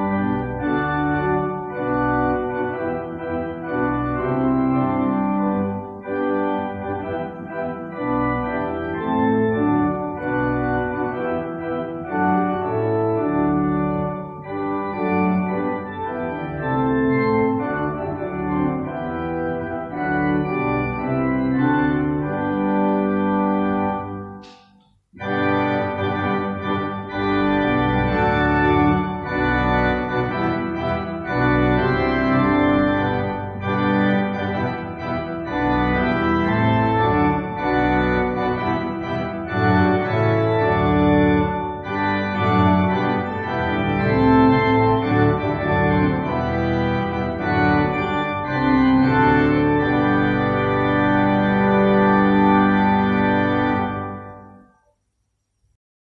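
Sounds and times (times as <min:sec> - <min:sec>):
organ playing a hymn: 0:00.0 - 0:24.5, 0:25.2 - 0:54.8.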